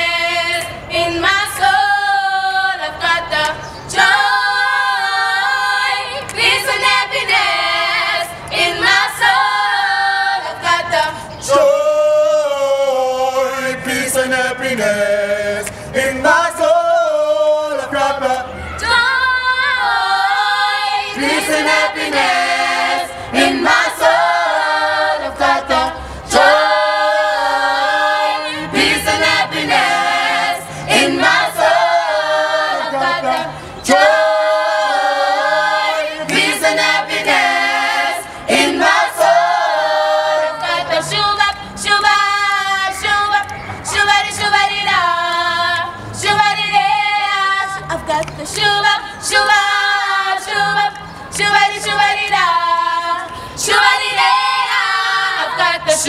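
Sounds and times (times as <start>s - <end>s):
youth choir singing a cappella: 0.0s - 56.0s.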